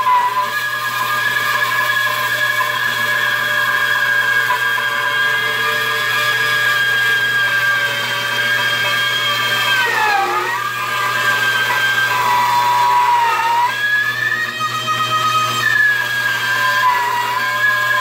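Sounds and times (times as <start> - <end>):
bandsaw cutting wood: 0.0 - 18.0.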